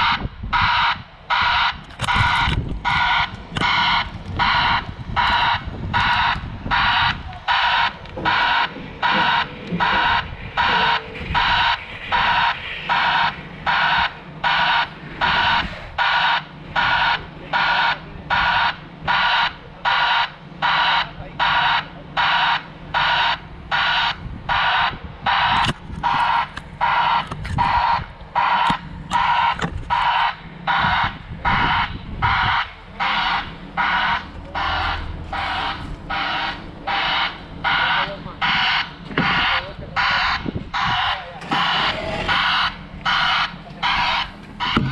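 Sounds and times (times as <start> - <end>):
crane engine running: 0.0 - 44.9
reversing alarm beeping: 0.0 - 44.9.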